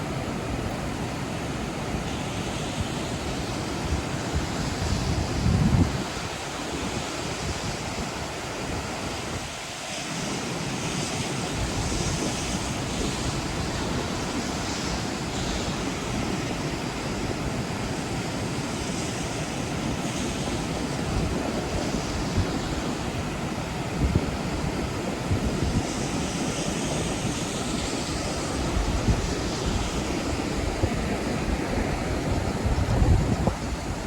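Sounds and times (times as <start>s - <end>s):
river water rushing at a weir: 0.0s - 34.0s
wind buffeting microphone: 0.0s - 34.0s.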